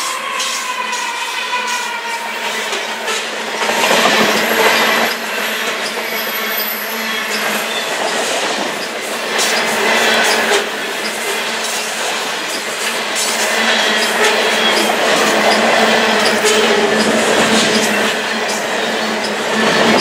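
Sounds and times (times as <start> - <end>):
steel wheels rumbling on rail: 0.0 - 20.0
wheels clicking over rail joints: 2.7 - 20.0.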